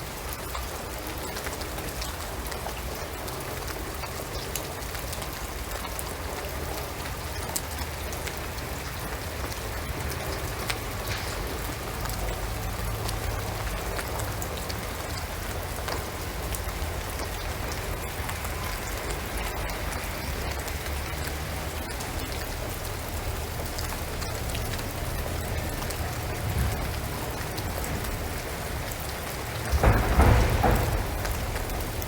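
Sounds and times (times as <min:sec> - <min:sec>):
rain on a roof and trees: 0:00.0 - 0:32.0.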